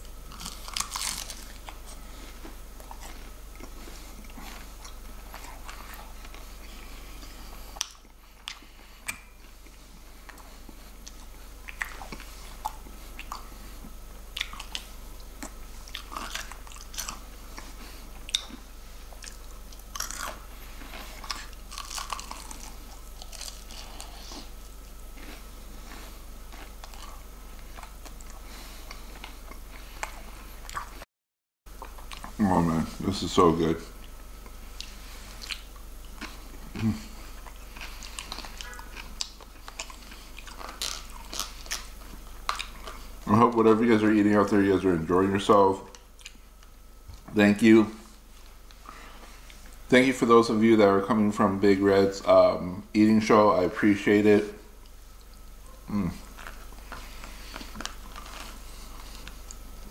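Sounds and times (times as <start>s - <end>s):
crunchy chewing of fried chicken: 0.0s - 31.0s, 31.7s - 47.3s, 54.0s - 59.9s.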